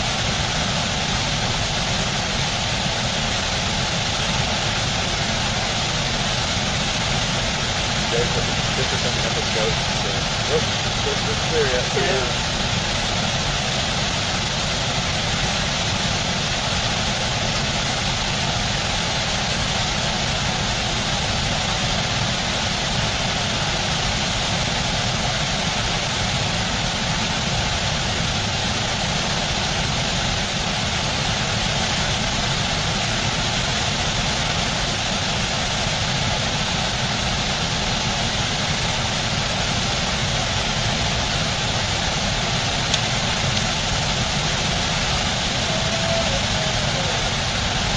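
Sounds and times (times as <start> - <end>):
water rushing over waterfall: 0.0 - 47.9.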